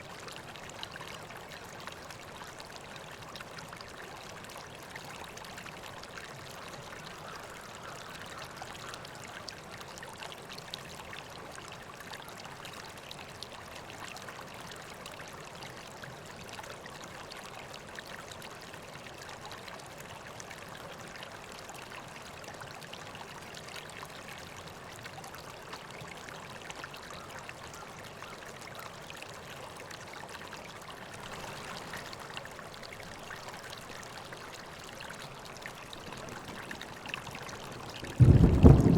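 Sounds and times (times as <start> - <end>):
river water flowing and splashing: 0.0 - 38.9.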